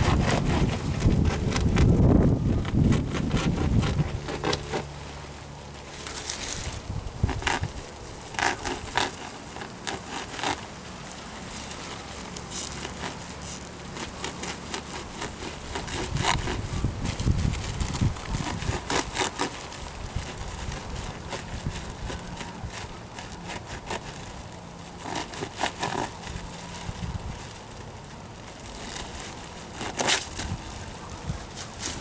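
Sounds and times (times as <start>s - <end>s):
crackling and rustling of materials: 0.0s - 32.0s.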